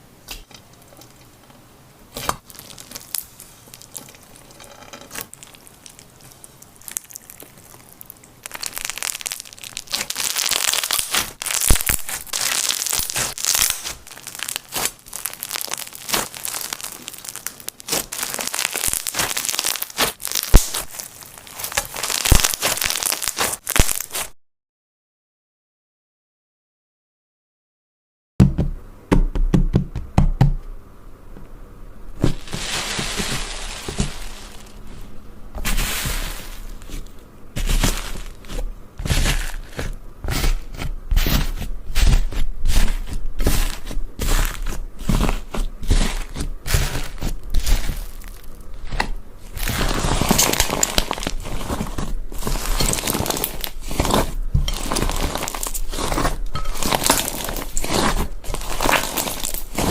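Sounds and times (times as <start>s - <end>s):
slime crackling and popping: 2.1s - 24.4s, 32.2s - 35.0s, 35.6s - 59.9s.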